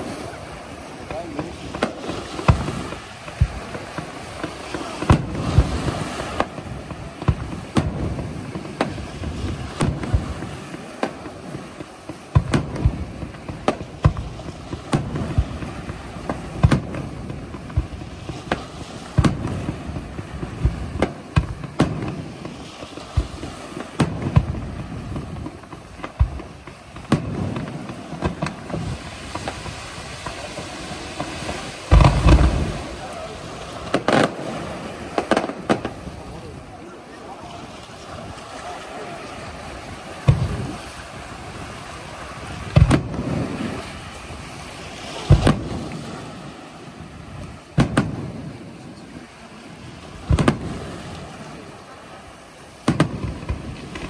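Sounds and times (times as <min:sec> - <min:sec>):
continuous hiss and rumble: 0:00.0 - 0:54.0
firework bangs: 0:00.0 - 0:54.0.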